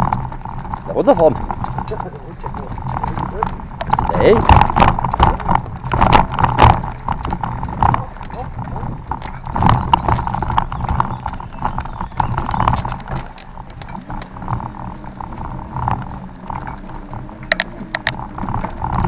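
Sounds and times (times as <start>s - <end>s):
bike rattling and knocking: 0.0s - 19.0s
steady low rumble: 0.0s - 19.0s.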